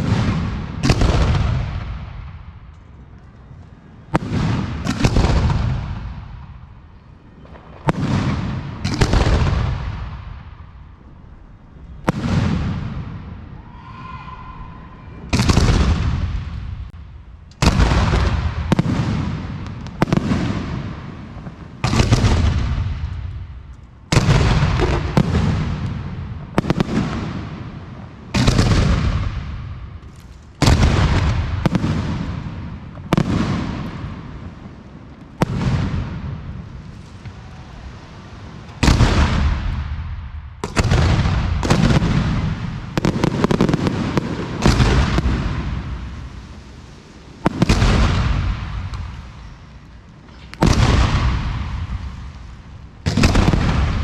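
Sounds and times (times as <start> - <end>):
fireworks bursting with echo: 0.0 - 54.0.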